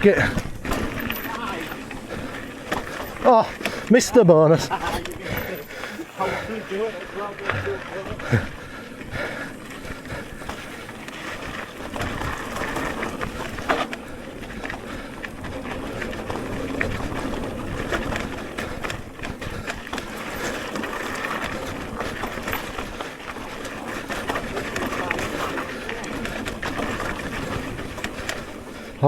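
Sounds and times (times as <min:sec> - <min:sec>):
bike rattling and knocking: 0:00.0 - 0:29.0
tyre and wind noise: 0:00.0 - 0:29.0.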